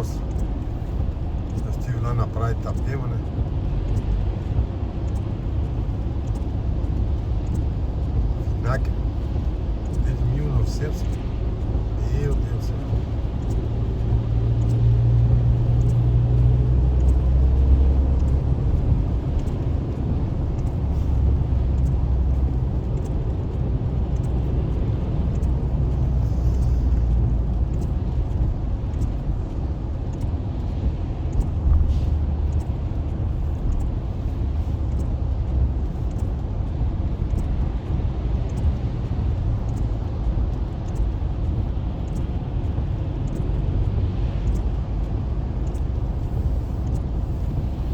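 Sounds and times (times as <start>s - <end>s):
low engine hum: 0.0s - 47.9s
road noise inside car: 0.0s - 47.9s.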